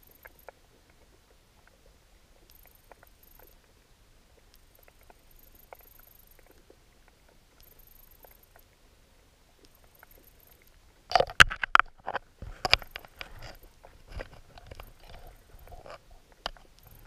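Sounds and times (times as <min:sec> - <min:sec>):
faint underwater clicks and ticks: 0:00.0 - 0:17.0.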